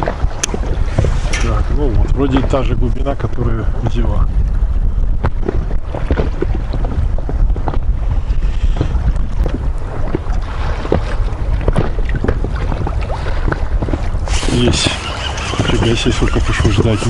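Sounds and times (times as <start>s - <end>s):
water lapping against boat: 0.0s - 17.0s
wind buffeting microphone: 0.0s - 17.0s.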